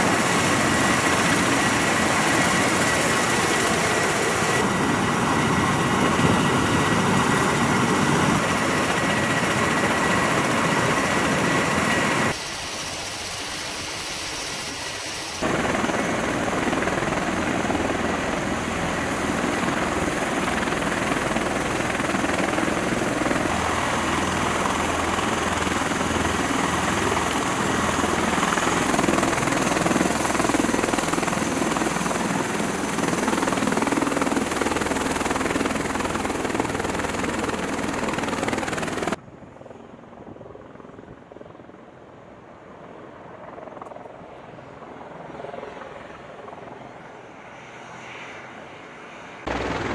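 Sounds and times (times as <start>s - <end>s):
high turbine whine: 0.0s - 39.2s, 48.3s - 49.9s
rotor and turbine rush: 0.0s - 39.2s, 47.9s - 49.9s.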